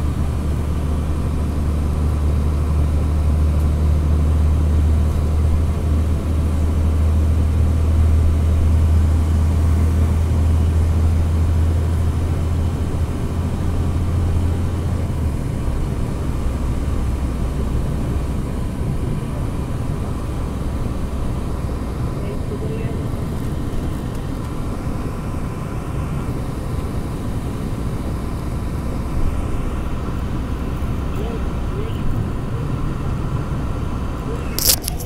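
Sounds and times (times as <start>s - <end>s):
diesel engine low drone: 0.0s - 35.0s
road noise: 0.0s - 35.0s.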